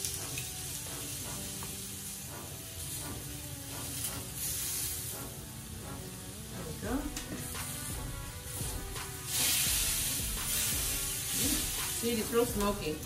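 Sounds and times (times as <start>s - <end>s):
fruit sizzling on grill: 0.0s - 13.0s.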